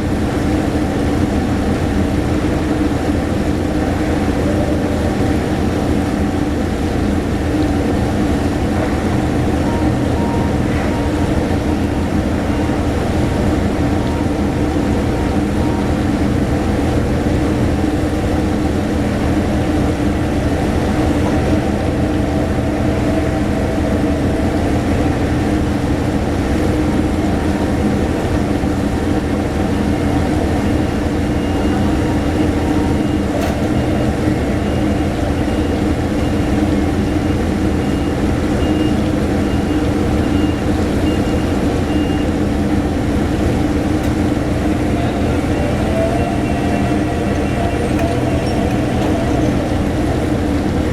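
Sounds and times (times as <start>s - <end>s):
heavy machine engine droning: 0.0s - 50.9s.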